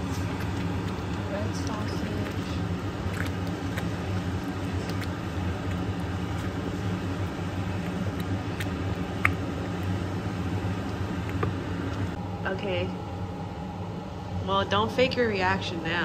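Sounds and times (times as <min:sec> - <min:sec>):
range hood fan humming: 0:00.0 - 0:16.0.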